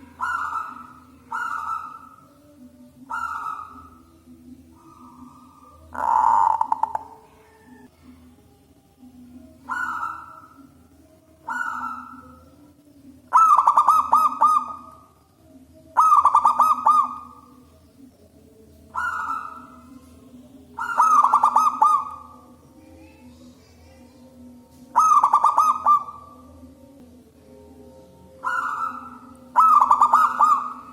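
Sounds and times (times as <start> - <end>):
dove cooing: 0.0 - 7.9, 9.5 - 15.1, 15.9 - 17.7, 18.5 - 26.6, 28.2 - 30.9
faint low hum: 0.0 - 30.9.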